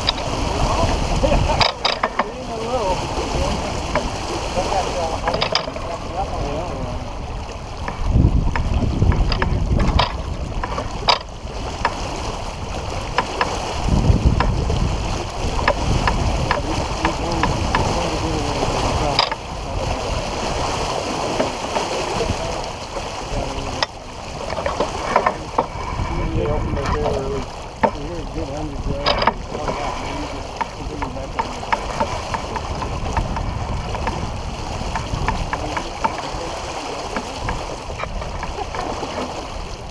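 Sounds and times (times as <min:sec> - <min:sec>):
water rushing along hull: 0:00.0 - 0:39.9
wind gusting on microphone: 0:00.0 - 0:39.9.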